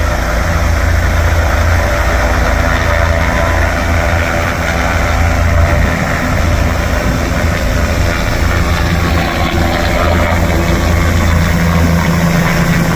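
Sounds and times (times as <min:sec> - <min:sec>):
helicopter drone: 0:00.0 - 0:12.9.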